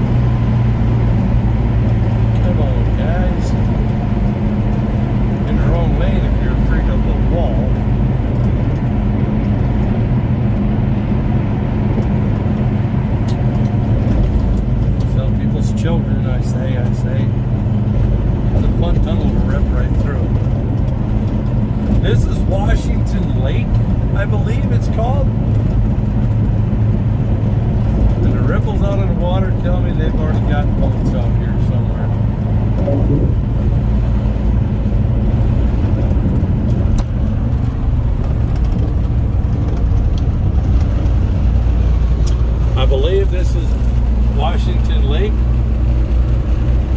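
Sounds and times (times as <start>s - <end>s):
road noise: 0.0s - 46.9s
vehicle engine droning: 0.0s - 46.9s.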